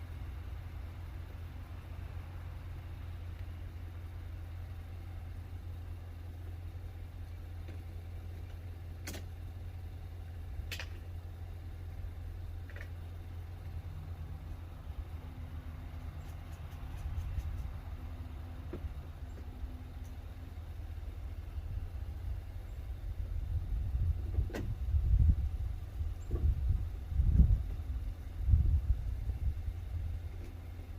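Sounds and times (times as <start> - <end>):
truck engine idling: 0.0 - 30.9.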